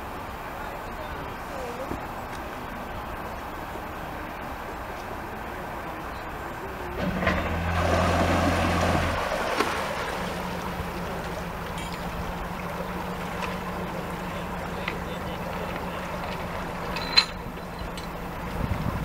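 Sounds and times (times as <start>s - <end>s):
boat diesel engine revving: 0.0s - 19.0s
propeller churning water: 0.0s - 19.0s.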